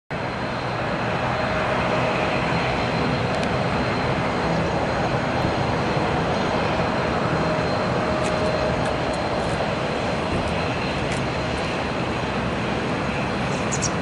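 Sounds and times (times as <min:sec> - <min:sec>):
jet engines roaring: 0:00.1 - 0:14.0.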